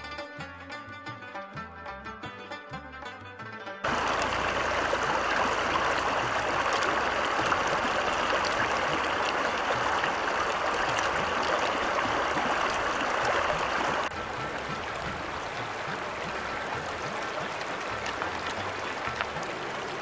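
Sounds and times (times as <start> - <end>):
flowing water rushing: 3.8 - 20.0.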